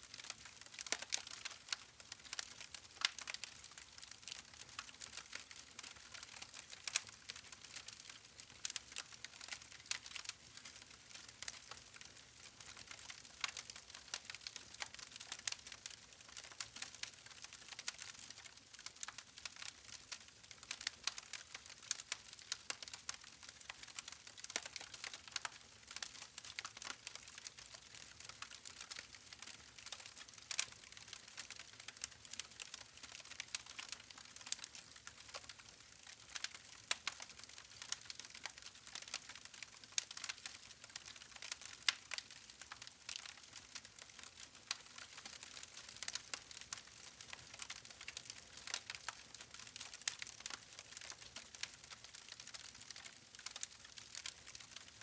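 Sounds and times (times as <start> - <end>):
wood fire crackling: 0.2 - 55.0.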